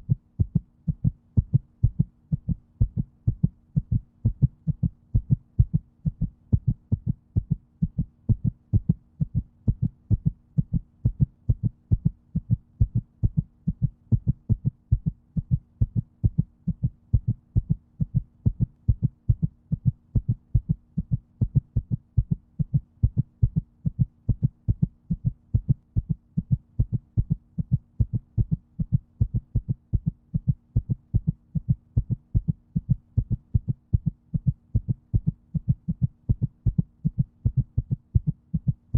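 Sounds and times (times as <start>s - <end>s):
faint steady hum: 0.0s - 38.9s
heartbeat: 0.0s - 38.9s.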